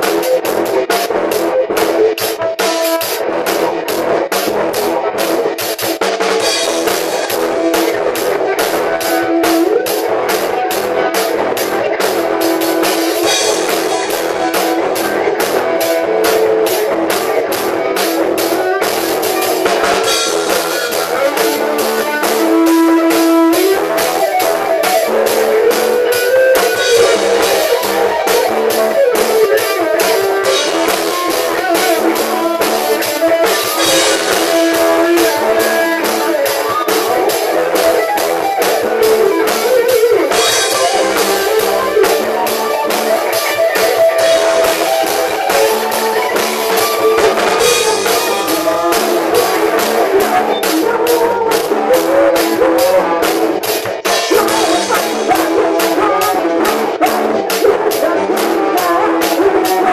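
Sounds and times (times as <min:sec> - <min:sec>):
electric guitar: 0:00.0 - 0:59.9
rock drum kit: 0:00.0 - 0:59.9.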